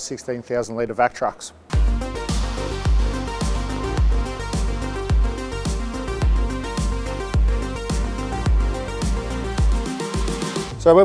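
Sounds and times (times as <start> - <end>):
kick drum beat: 1.7 - 10.7
sustained synth notes: 1.7 - 10.7
electronic music: 1.7 - 11.0.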